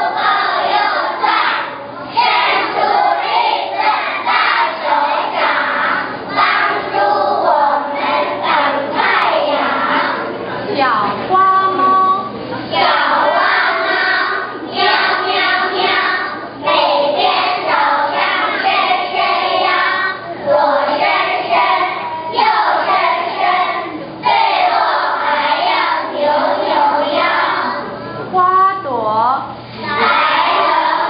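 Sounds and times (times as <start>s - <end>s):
children singing in unison: 0.0s - 10.4s, 12.7s - 27.9s, 29.8s - 31.0s.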